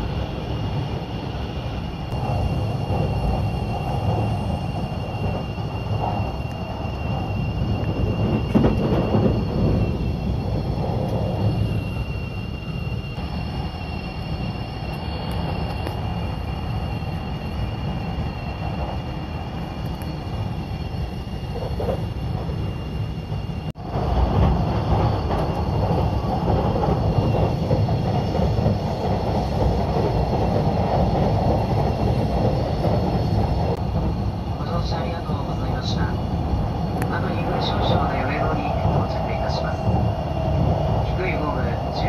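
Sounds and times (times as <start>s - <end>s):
electric train running rumble: 0.0s - 42.0s.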